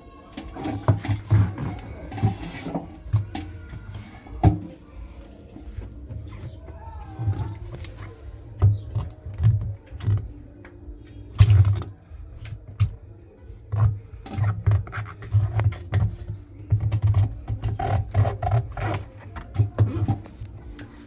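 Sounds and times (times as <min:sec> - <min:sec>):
hands working on washing machine parts: 0:00.2 - 0:21.0.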